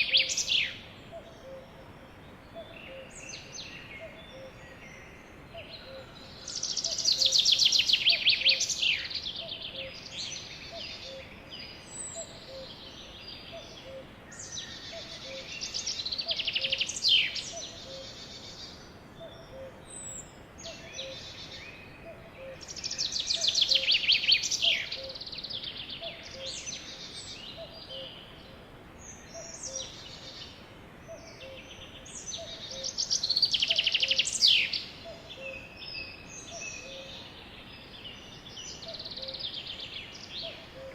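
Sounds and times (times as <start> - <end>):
sparrows singing trilled song: 0.0 - 28.4, 29.0 - 40.9.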